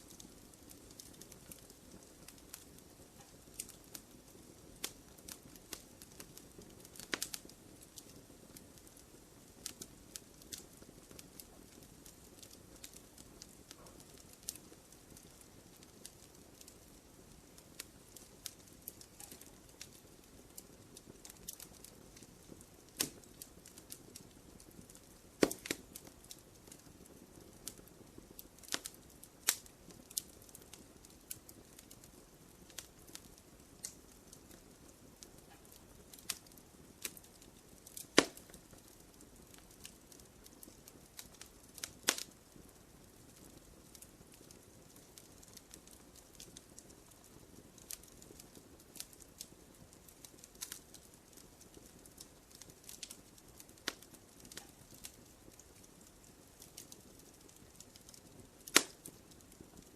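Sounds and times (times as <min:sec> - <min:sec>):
faint low hiss: 0:00.0 - 0:59.9
wood fire crackling: 0:00.0 - 0:59.9.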